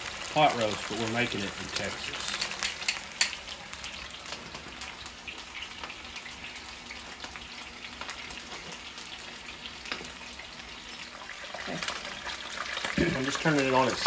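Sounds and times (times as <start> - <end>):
meat sizzling in frying pan: 0.0 - 14.0.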